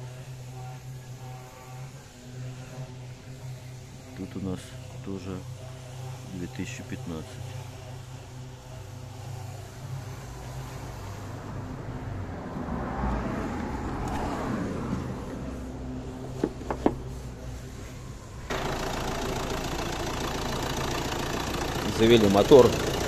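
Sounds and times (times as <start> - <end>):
steady low hum: 0.0 - 23.0
diesel engine idling: 3.1 - 23.0.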